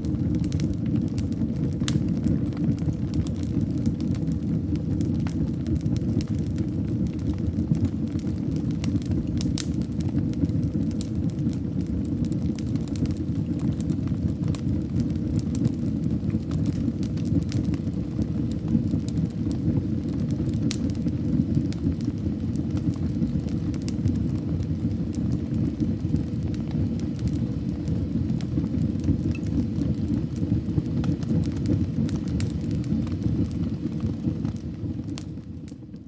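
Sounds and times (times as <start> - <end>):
fire burning with crackles: 0.0 - 36.0.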